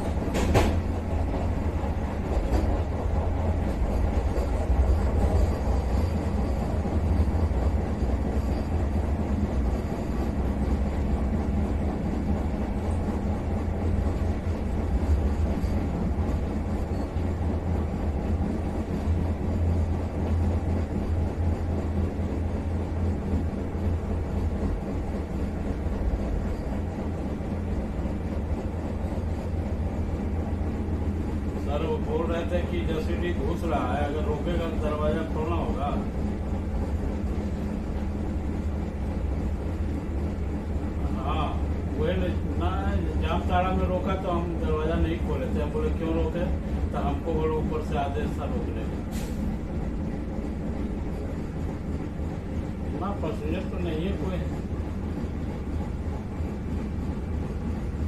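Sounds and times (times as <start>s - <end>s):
train deep rumble: 0.0s - 58.0s.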